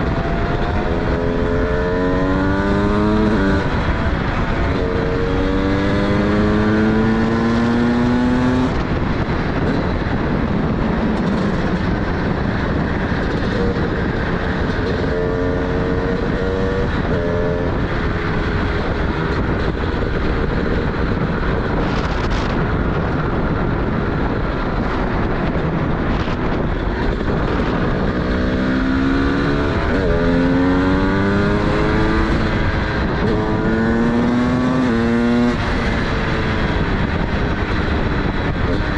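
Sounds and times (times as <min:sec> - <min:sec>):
road noise: 0:00.0 - 0:38.9
two-stroke engine accelerating: 0:00.0 - 0:38.9
wind rush: 0:00.0 - 0:38.9.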